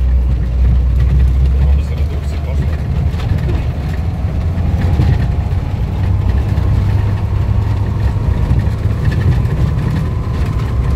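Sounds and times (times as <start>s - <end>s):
car engine and tyres rumbling: 0.0s - 10.9s.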